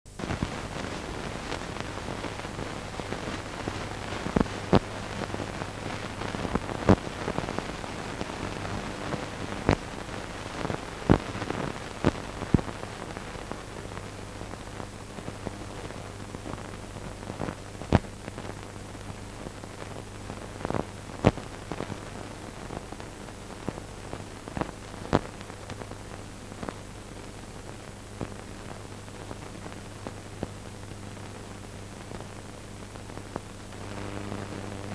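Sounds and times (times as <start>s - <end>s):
crackles and pops: 0.1s - 34.9s
film soundtrack hiss: 0.1s - 34.9s.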